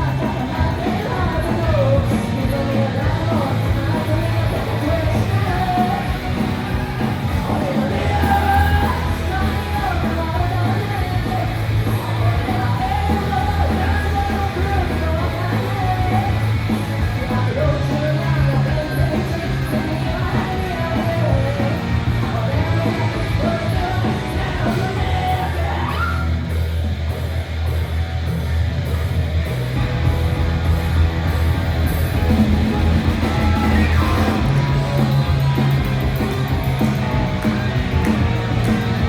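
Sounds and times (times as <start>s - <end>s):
shouted punk vocals: 0.0s - 28.4s, 29.8s - 39.0s
rock band playing: 0.0s - 39.0s.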